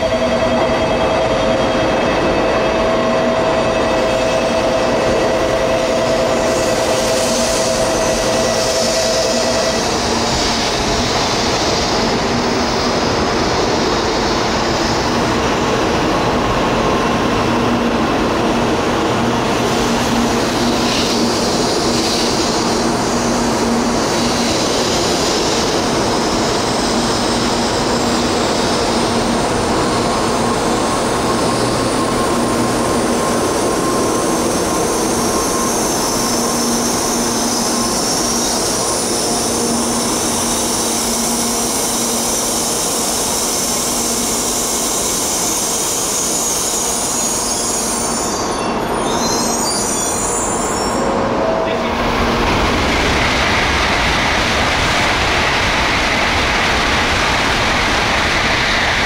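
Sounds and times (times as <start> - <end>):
train running on track: 0.0 - 59.0.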